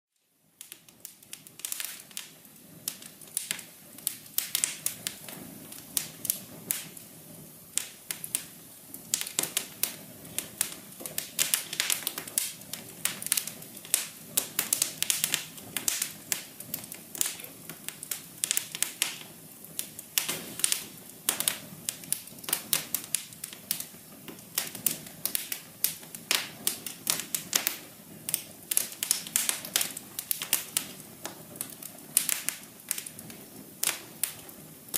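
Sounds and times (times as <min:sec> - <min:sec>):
fire crackling: 0:00.2 - 0:34.9.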